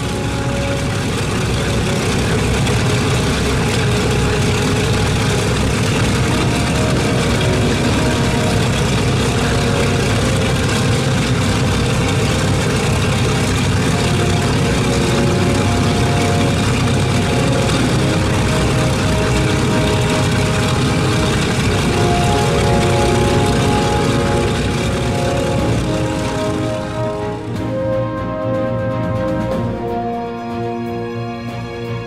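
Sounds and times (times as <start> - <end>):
propeller engines idling: 0.0 - 32.0.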